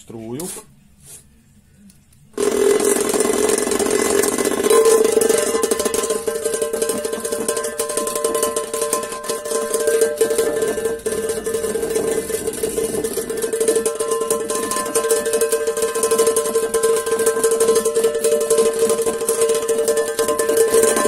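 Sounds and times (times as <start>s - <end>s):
vibration motor rattling metal can: 2.4s - 21.0s.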